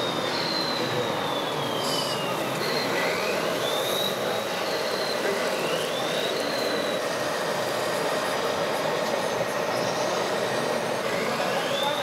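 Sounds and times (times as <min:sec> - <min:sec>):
noisy background: 0:00.0 - 0:12.0.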